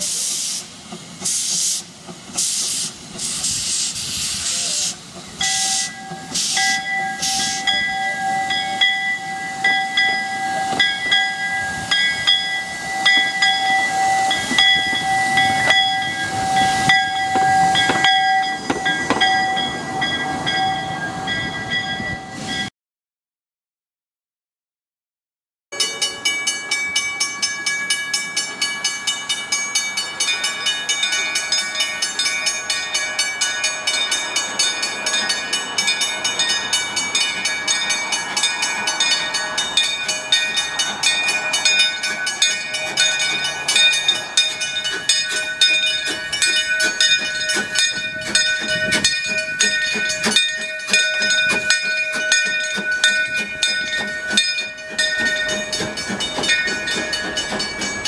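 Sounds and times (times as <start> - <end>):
steam locomotive running slowly: 0.0 - 22.7, 25.8 - 58.0
steady high ringing tone: 5.4 - 22.7, 25.8 - 58.0.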